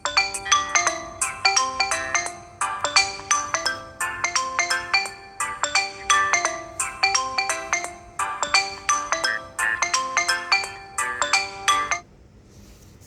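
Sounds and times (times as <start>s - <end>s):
bell-like phone ringtone: 0.0s - 12.0s.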